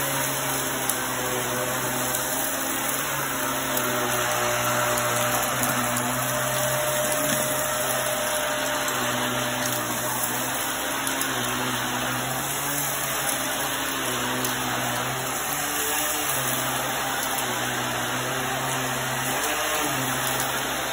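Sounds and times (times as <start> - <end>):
vacuum cleaner running: 0.0 - 20.9.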